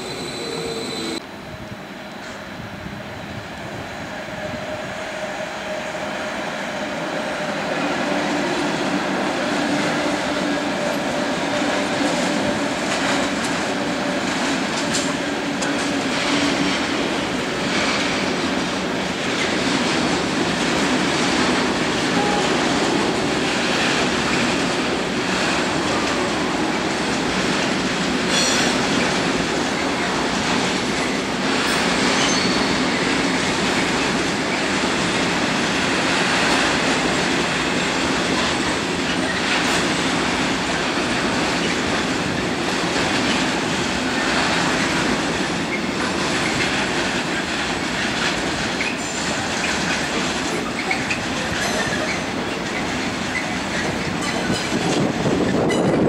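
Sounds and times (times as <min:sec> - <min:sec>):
train wheels on track: 0:00.0 - 0:56.0.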